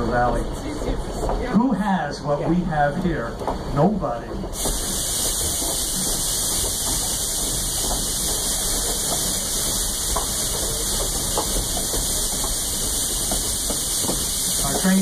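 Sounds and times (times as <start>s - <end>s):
train coach rumble and hiss: 0.0s - 15.0s.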